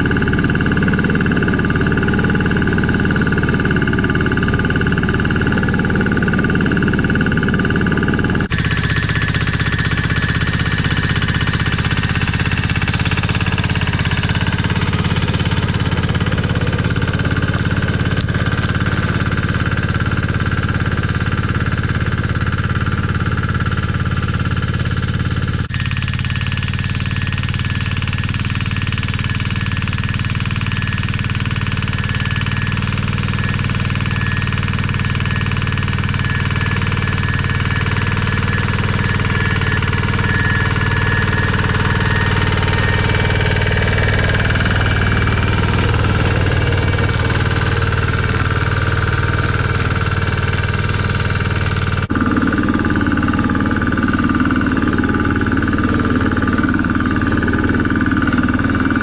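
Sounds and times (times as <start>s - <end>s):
walking tractor running: 0.0s - 59.0s.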